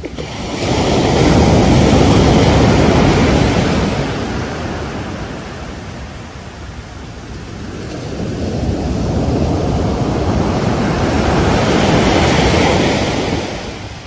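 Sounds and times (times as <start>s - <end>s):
ocean wave crashing on beach: 0.0s - 14.0s.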